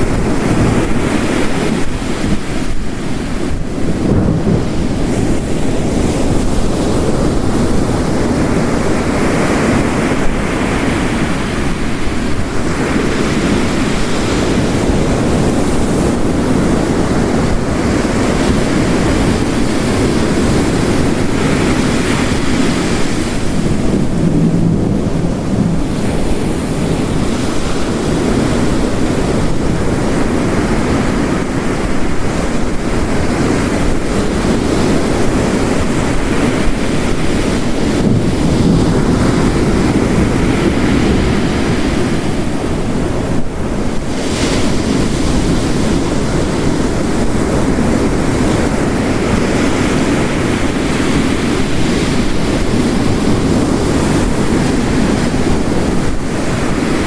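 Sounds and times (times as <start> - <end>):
heavy rain: 0.0 - 57.0
ocean waves crashing: 0.0 - 57.0.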